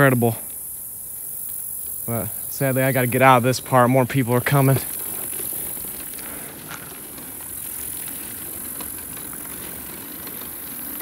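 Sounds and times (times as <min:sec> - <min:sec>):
bicycle tyres on rough asphalt: 0:00.0 - 0:11.0
bike rattles and clicks: 0:00.0 - 0:11.0
insect chorus: 0:00.0 - 0:11.0.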